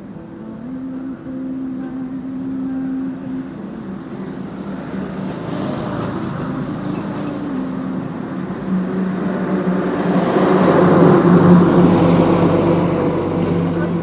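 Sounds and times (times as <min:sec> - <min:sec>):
motor engine running: 0:00.7 - 0:14.0.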